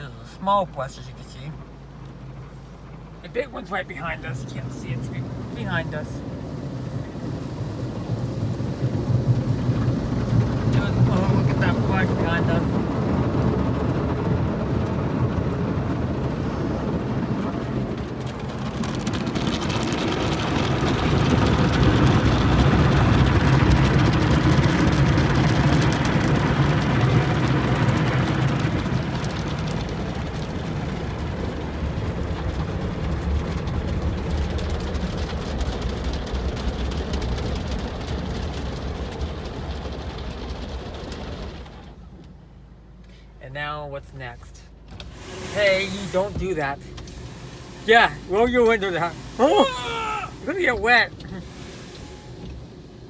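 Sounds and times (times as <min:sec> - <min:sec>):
car wash brushes and water spray: 0:00.0 - 0:53.0.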